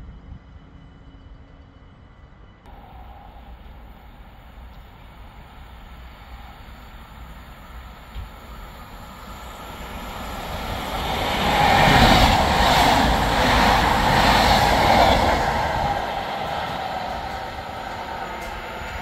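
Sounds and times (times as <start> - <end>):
train rushing past: 2.7 - 19.0.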